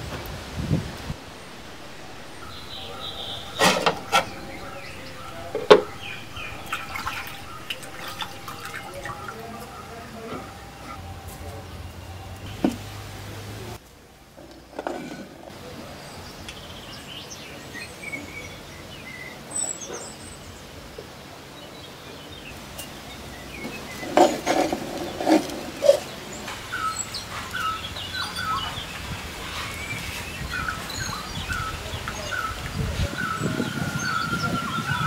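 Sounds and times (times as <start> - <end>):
small birds chirping: 1.0 - 11.0, 15.6 - 35.0.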